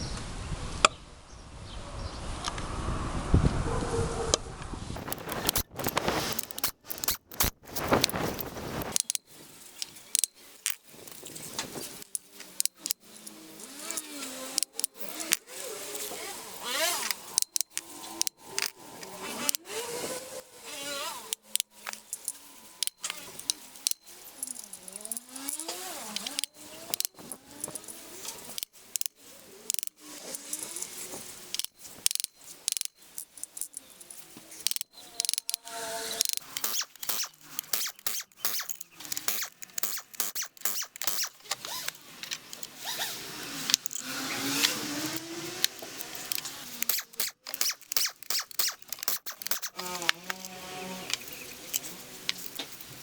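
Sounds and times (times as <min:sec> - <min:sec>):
ratchet clicks: 0:05.0 - 0:53.0
short squeaks: 0:05.0 - 0:53.0.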